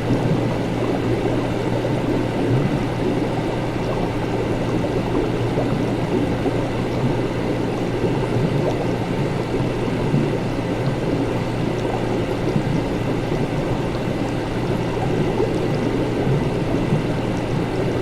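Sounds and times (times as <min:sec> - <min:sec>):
liquid bubbling and gurgling: 0:00.0 - 0:18.0
low machine hum: 0:00.0 - 0:18.0.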